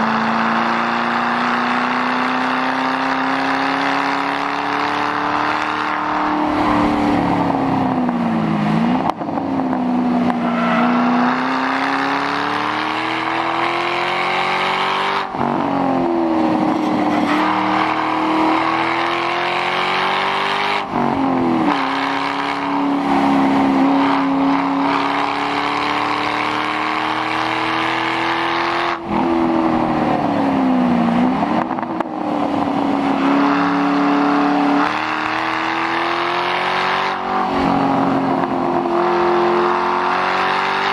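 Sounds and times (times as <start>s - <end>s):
car engine revving at speed: 0.0s - 40.9s.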